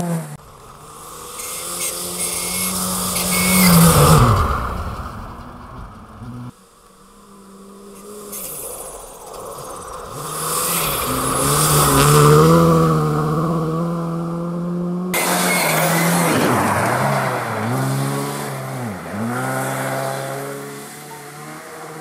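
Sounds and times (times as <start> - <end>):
rally car engine accelerating hard: 0.0 - 6.6, 9.4 - 22.0.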